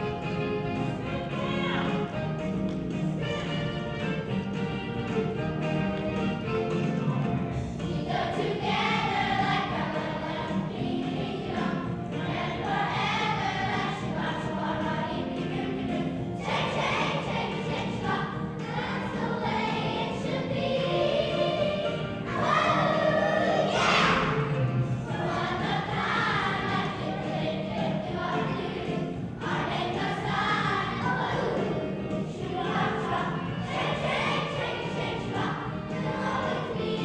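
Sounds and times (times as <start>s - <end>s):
children's chorus singing: 0.0s - 37.0s
instrumental backing music: 0.0s - 37.0s.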